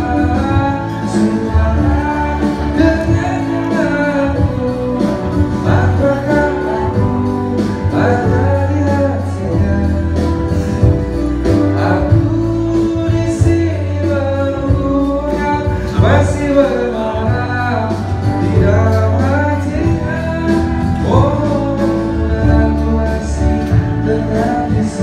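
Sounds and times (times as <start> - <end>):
amplified pop backing music: 0.0 - 25.0
man singing into a microphone: 0.0 - 25.0.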